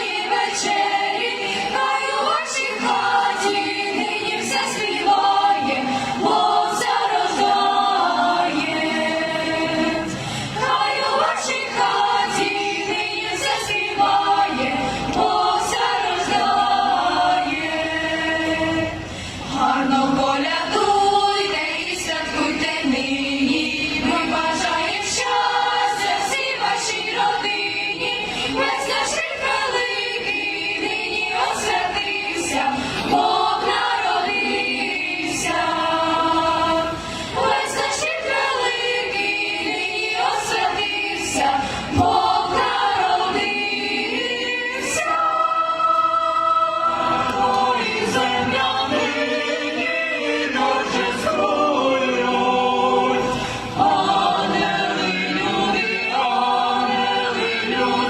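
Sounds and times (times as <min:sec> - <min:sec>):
choir singing carol: 0:00.0 - 0:58.0.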